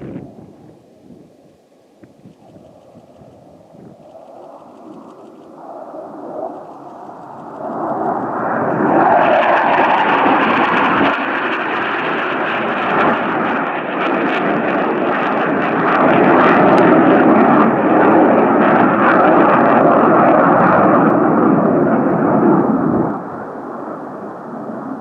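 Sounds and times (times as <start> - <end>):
fighter jet flying past: 2.2 - 25.0.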